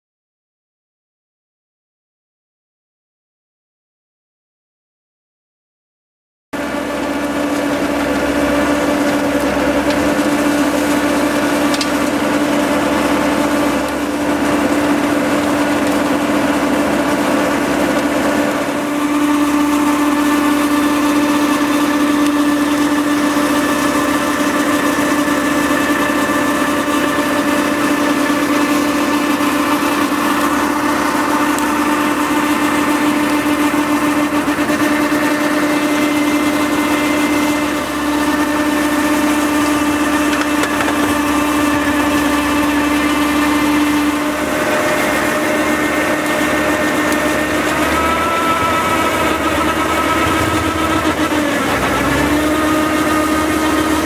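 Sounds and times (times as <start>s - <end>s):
machine engine humming: 6.6s - 54.0s.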